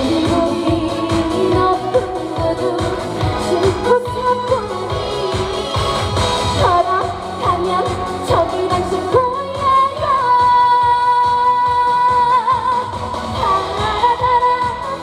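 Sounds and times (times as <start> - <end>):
accompaniment with steady beat: 0.0 - 15.0
woman singing: 0.0 - 15.0.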